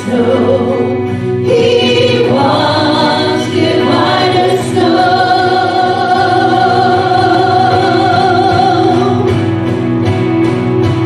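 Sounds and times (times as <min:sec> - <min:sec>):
singers and band holding a note: 0:00.0 - 0:09.5
rhythmic guitar strumming: 0:00.0 - 0:11.0.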